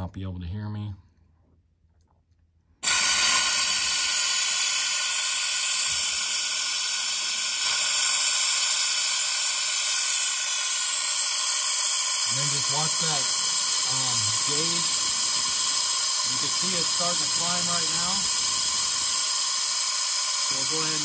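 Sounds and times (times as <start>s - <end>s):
compressed air hissing: 2.8s - 21.0s.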